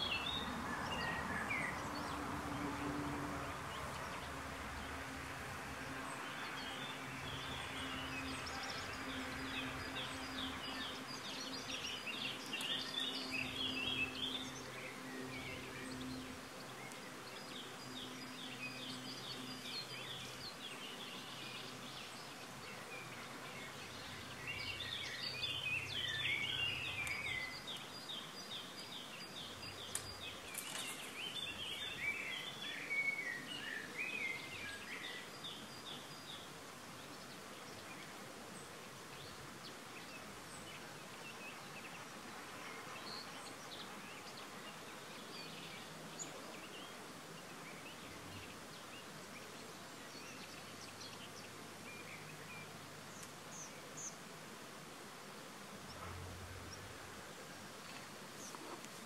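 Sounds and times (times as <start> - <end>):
small birds chirping: 0.0 - 2.9, 5.8 - 59.0.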